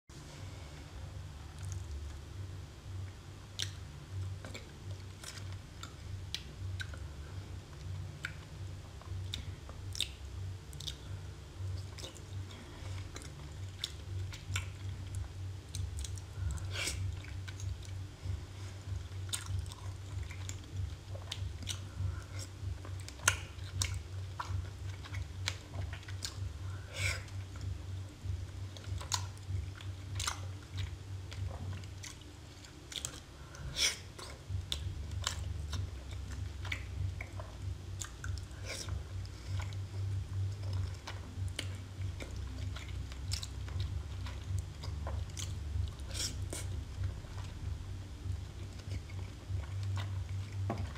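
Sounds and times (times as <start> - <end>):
steady low hum: 0.0 - 50.9
chewing mouth clicks and smacks: 1.5 - 2.1, 3.5 - 7.1, 7.7 - 18.1, 18.9 - 27.8, 28.5 - 50.9.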